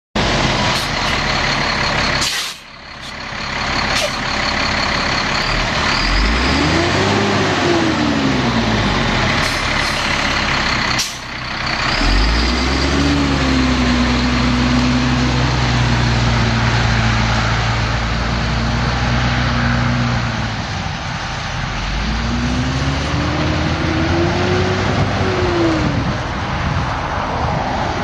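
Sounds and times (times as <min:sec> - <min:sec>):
diesel truck engine revving: 0:00.2 - 0:27.9.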